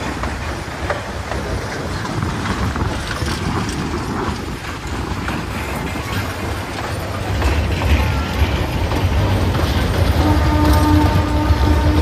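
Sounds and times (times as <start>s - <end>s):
rail clicks and clatter: 0.0s - 12.0s
train wheels rumbling on rails: 0.0s - 12.0s.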